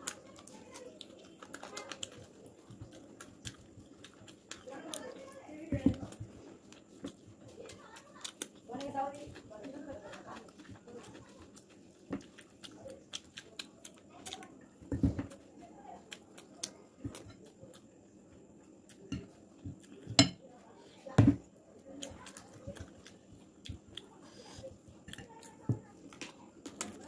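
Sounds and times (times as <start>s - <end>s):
fingers squelching sticky food: 0.0s - 20.2s, 21.8s - 27.0s.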